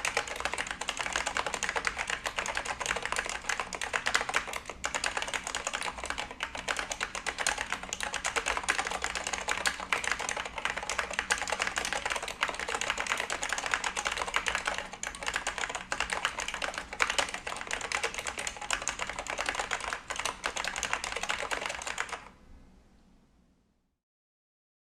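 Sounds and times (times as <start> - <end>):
fast keyboard typing: 0.0 - 22.3.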